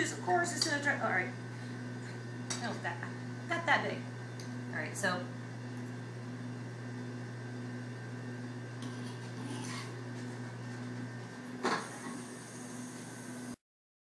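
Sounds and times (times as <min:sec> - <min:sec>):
electrical hum: 0:00.0 - 0:13.6.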